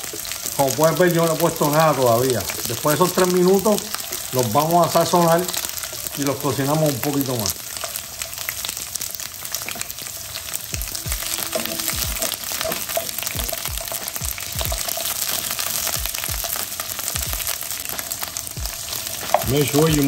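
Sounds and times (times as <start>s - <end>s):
vegetables sizzling in frying pan: 0.0s - 20.0s.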